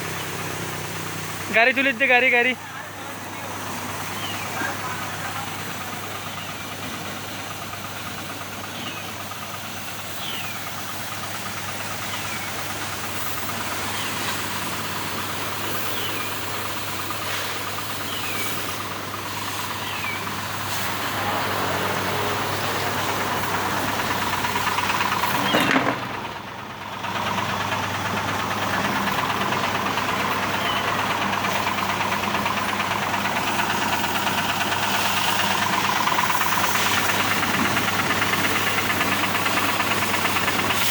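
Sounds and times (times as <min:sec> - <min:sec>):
water spraying hiss: 0:00.0 - 0:02.4, 0:03.0 - 0:25.5, 0:27.4 - 0:40.9.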